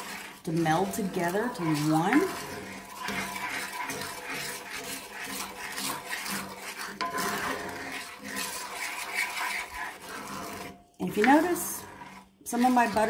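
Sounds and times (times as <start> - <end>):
wooden spoon scraping a skillet: 0.0 - 13.0.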